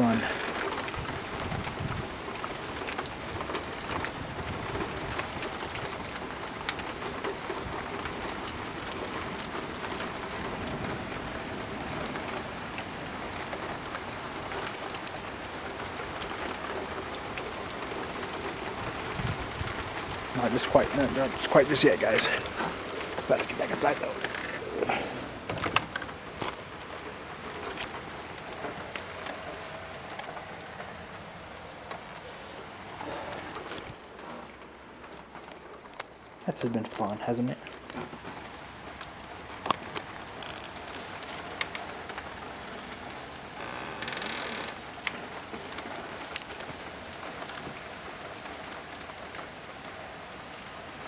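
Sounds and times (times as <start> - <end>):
rain hissing: 0.0 - 51.0.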